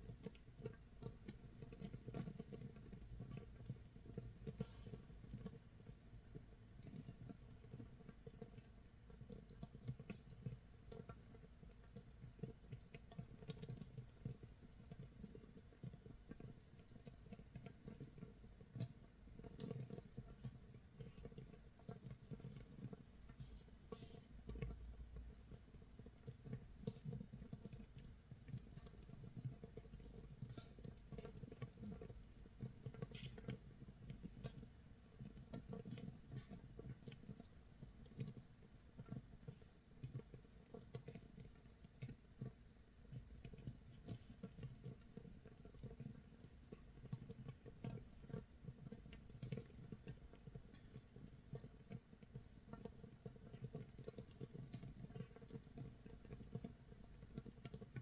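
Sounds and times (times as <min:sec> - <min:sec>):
fermenting bubbles popping: 0:09.2 - 0:58.0.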